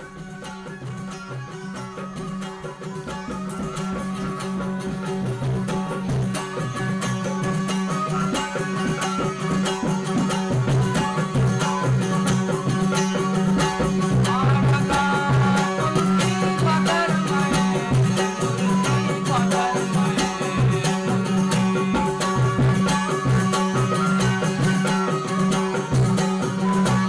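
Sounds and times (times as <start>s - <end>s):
folk music on string instruments: 0.0s - 27.0s.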